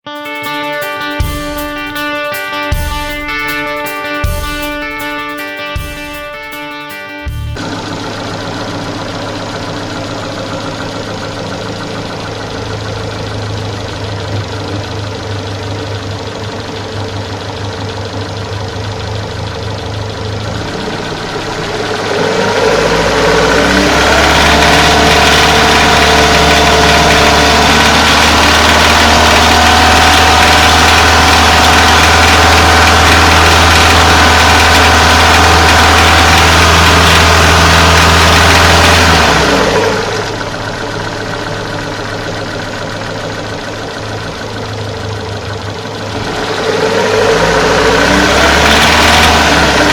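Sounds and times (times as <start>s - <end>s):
car engine idling with knock: 7.3s - 49.9s.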